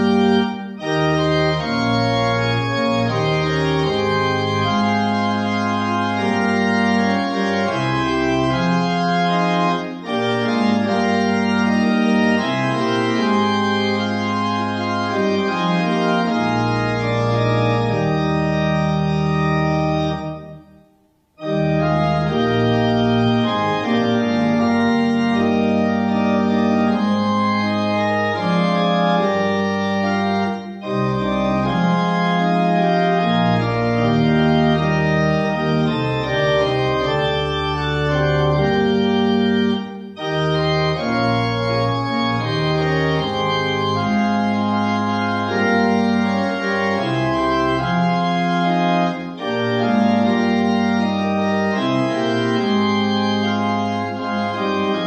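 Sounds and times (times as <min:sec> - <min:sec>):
organ playing hymn chords: 0:00.0 - 0:55.0.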